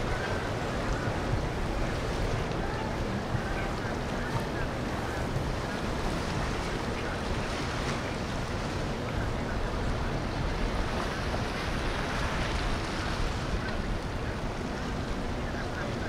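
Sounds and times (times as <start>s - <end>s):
boat noise: 0.0s - 16.0s
rushing water: 0.0s - 16.0s
wind rumbling on microphone: 0.0s - 16.0s.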